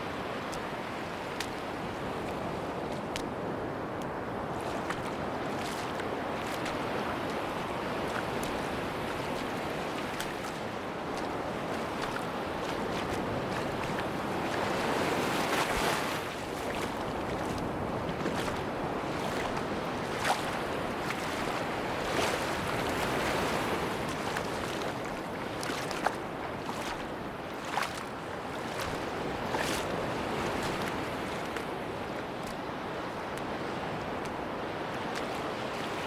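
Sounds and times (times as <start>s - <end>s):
waves washing onto beach: 0.0s - 36.0s.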